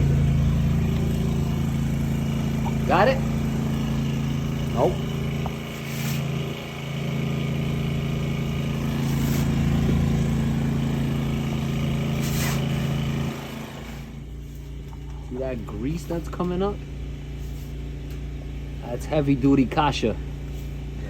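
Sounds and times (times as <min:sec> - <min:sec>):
water jetter engine and pump running: 0:00.0 - 0:21.0.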